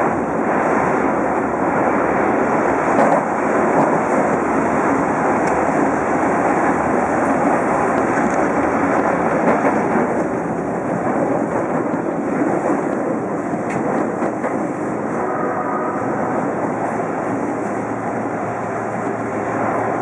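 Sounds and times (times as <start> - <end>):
train wheels rumbling on rail: 0.0 - 20.0
tunnel noise: 0.0 - 20.0.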